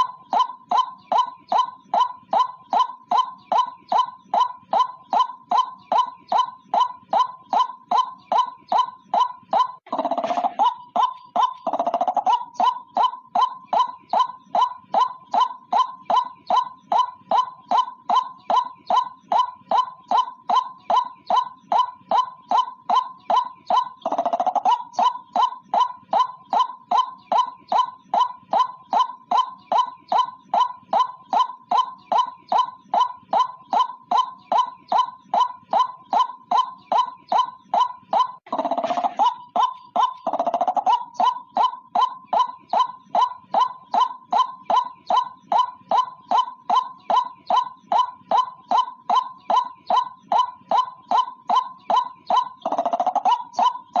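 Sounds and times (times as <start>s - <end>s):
waterhen calling rapid notes: 0.0s - 54.0s.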